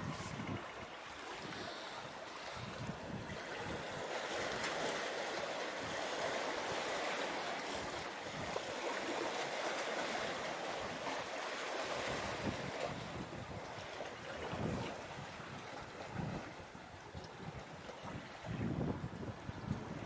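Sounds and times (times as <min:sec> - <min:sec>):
sea waves: 0:00.0 - 0:20.0.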